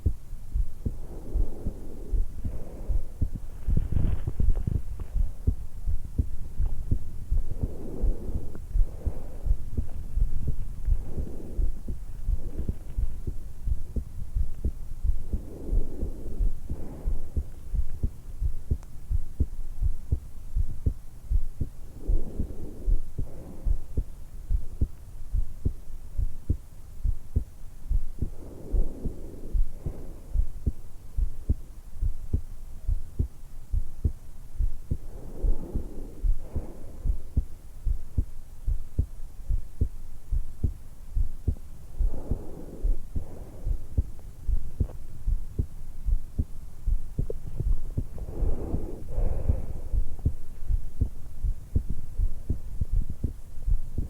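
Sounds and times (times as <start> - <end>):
slow breathing: 0.0 - 19.9, 20.6 - 25.5, 27.9 - 33.9, 34.6 - 54.0
heartbeat thumps: 0.0 - 54.0.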